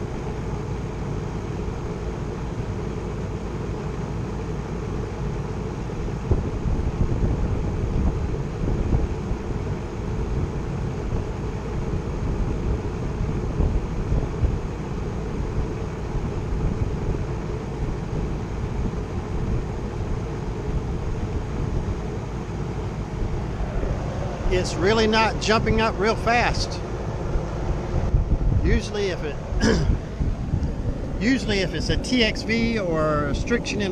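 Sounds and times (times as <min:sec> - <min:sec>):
heat pump unit running: 0:00.0 - 0:33.9.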